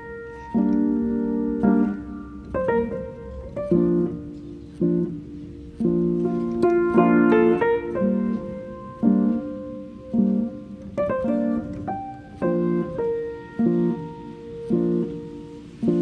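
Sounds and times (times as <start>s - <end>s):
soft instrumental music: 0.0s - 16.0s.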